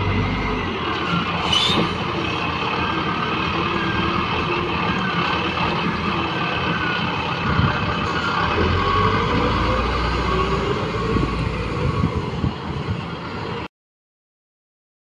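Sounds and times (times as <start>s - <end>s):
loader diesel engine revving: 0.0s - 12.4s.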